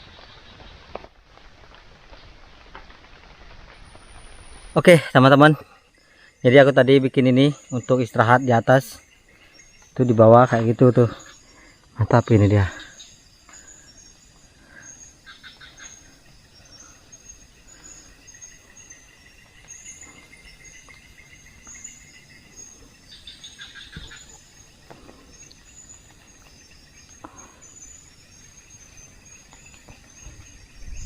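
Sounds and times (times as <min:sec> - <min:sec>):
insects chirping and trilling: 0:00.0 - 0:31.0
rapid pulsed insect calls: 0:00.0 - 0:31.0.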